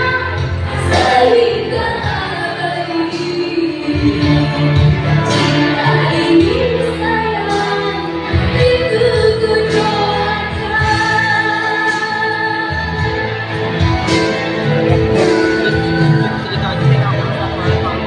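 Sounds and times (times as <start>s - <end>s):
woman singing pop ballad: 0.0s - 15.7s
band accompaniment: 0.0s - 18.0s.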